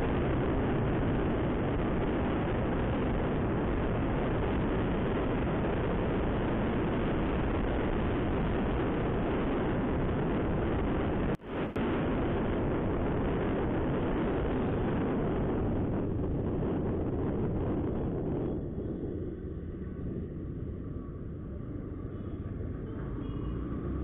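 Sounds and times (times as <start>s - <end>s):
wind roaring over microphone: 0.0s - 24.0s.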